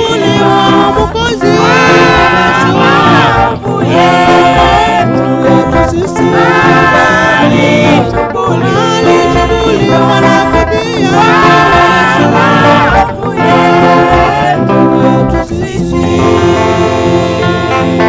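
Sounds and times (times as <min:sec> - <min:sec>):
instrumental accompaniment: 0:00.0 - 0:18.0
voices singing gospel song: 0:00.0 - 0:18.0.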